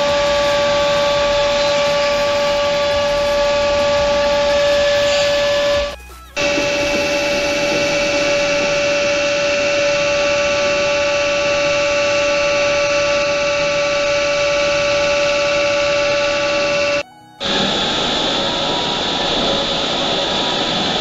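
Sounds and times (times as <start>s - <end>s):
drilling machine whine: 0.0s - 21.0s
higher-pitched machine sound: 0.0s - 21.0s.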